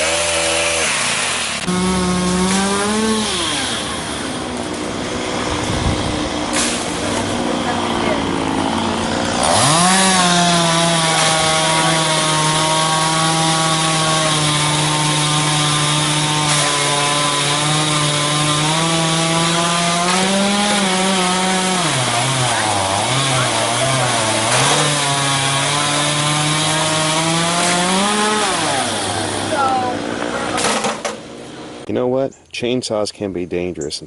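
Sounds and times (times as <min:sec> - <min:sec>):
chainsaw engine revving: 0:00.0 - 0:31.9.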